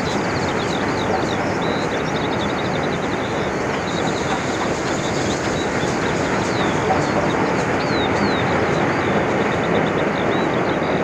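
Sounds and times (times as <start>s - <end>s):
small birds chirping: 0.0s - 11.0s
steam freight train passing: 0.0s - 11.0s.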